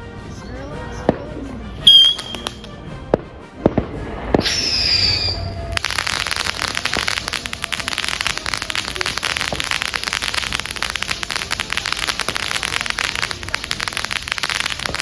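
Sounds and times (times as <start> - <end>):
firework crackling: 1.8 - 15.0.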